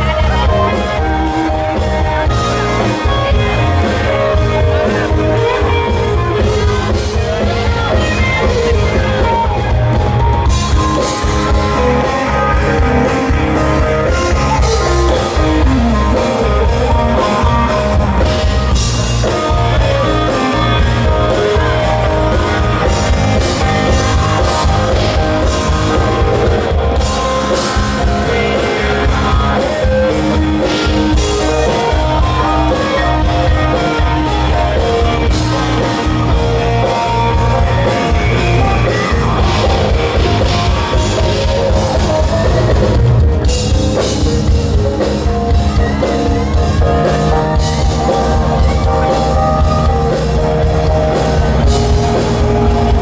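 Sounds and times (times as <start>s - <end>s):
bass guitar: 0.0s - 53.0s
drum kit: 0.0s - 53.0s
electric guitar: 0.0s - 53.0s.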